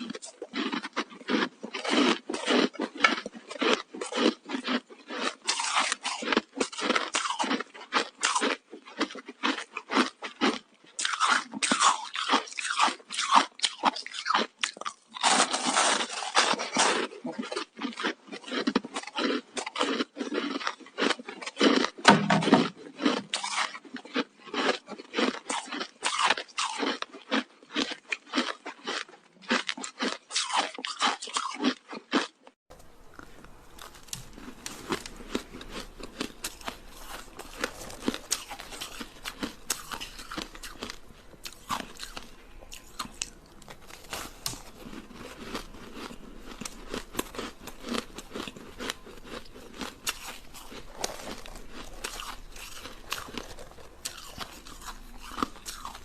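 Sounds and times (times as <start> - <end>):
ice sticks crunching when chewed: 0.0 - 56.0.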